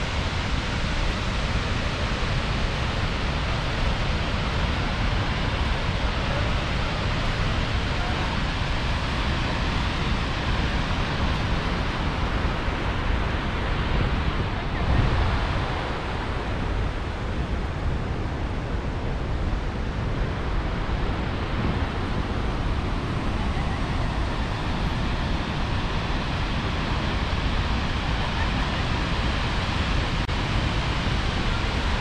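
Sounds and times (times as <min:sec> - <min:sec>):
waterfall rushing: 0:00.0 - 0:32.0
wind buffeting microphone: 0:00.0 - 0:32.0.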